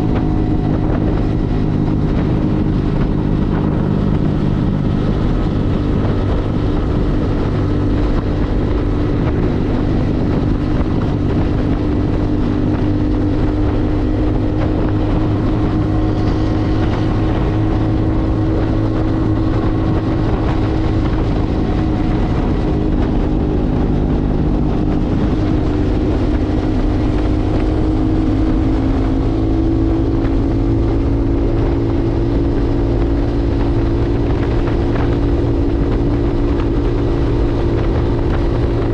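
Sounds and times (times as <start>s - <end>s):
motorcycle engine cruising: 0.0s - 38.9s
wind and road noise rumble: 0.0s - 38.9s.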